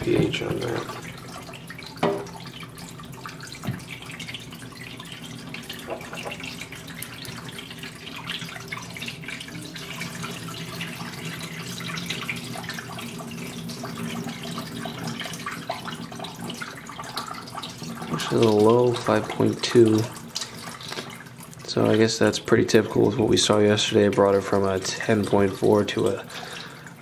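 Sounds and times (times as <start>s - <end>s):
water trickling into a beaker: 0.0s - 27.0s.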